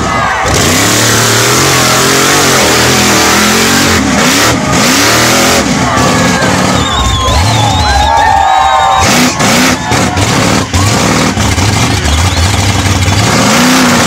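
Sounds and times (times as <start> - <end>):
truck churning through mud: 0.0 - 14.0
truck engine revving: 0.0 - 14.0.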